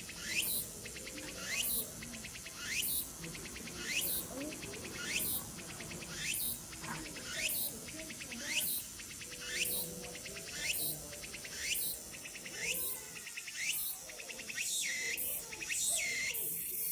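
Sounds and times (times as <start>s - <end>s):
cicada singing: 0.0s - 16.9s.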